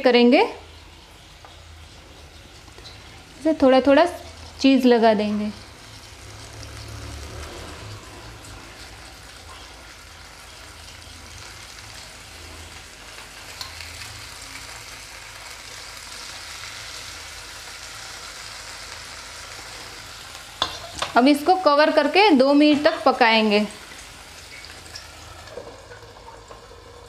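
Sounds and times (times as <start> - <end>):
food sizzling in a frying pan: 0.0 - 27.0.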